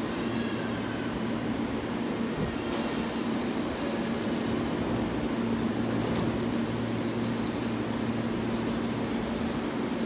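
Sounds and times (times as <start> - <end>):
electric train equipment humming: 0.0 - 10.0.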